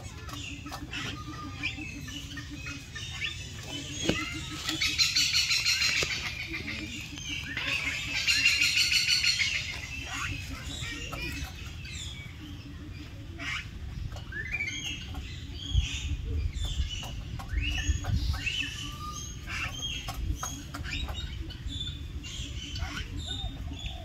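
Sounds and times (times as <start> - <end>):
bird chirps and squawks: 0.0 - 24.0.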